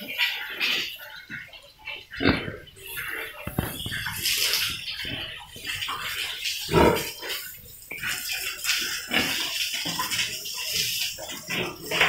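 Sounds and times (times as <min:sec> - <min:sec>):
pigs grunting and snuffling: 0:00.0 - 0:12.0
water splashing on concrete: 0:02.1 - 0:12.0.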